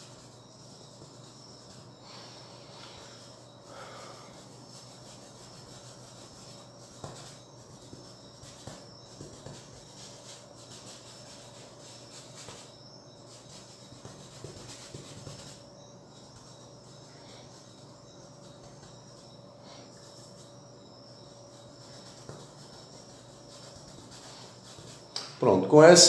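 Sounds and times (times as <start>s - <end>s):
paintbrush strokes on canvas: 0.0s - 25.2s
crickets chirring: 0.0s - 26.0s.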